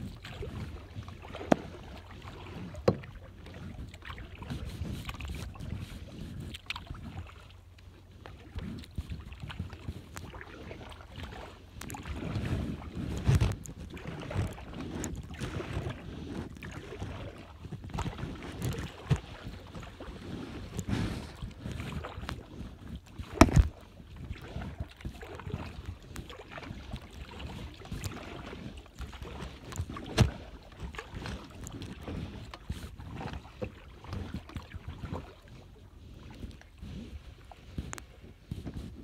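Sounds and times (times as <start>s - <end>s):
wind on microphone: 0.0s - 7.3s, 11.8s - 39.0s
paddle strokes in water: 0.0s - 39.0s.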